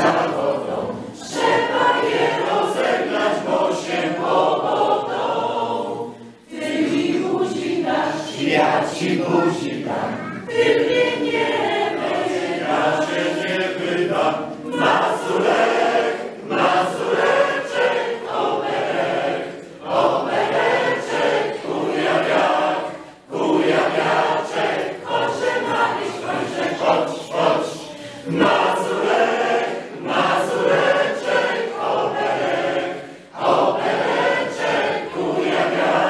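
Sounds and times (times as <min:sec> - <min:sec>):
mixed choir singing unaccompanied: 0:00.0 - 0:36.0.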